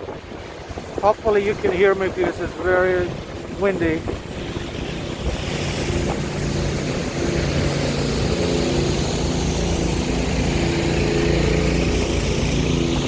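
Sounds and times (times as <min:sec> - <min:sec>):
motor engine running: 0:00.0 - 0:13.0
wind buffeting microphone: 0:00.0 - 0:13.0.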